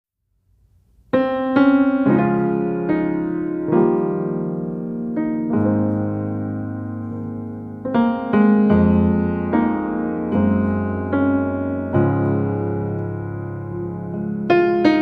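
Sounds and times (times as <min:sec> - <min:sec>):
slow piano chords: 0:00.8 - 0:15.0.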